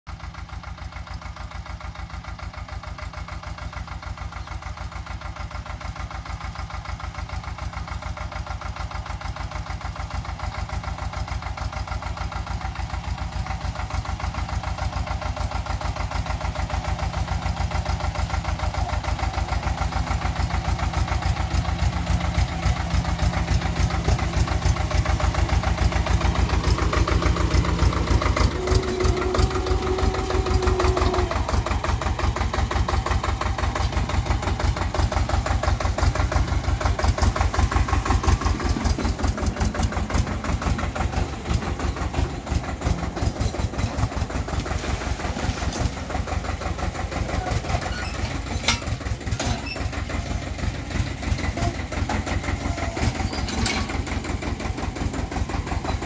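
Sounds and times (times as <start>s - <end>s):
tractor diesel engine chugging: 0.1s - 56.0s.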